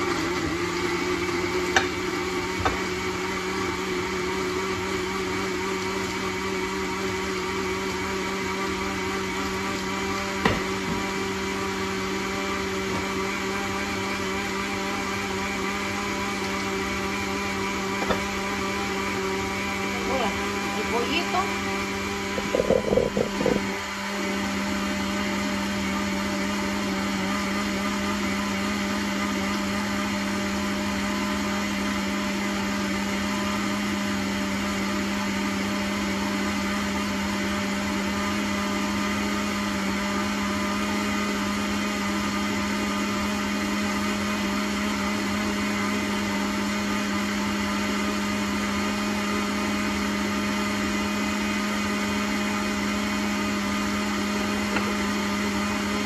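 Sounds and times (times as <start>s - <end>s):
blender motor running: 0.0s - 56.0s.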